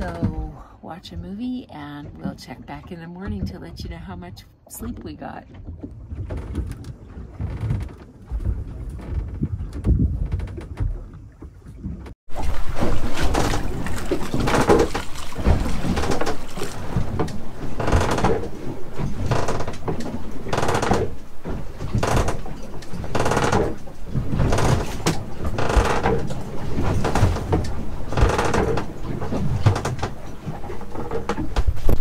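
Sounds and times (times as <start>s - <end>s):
boat fittings knocking and creaking: 0.0s - 32.0s
waves slapping against hull: 0.0s - 32.0s.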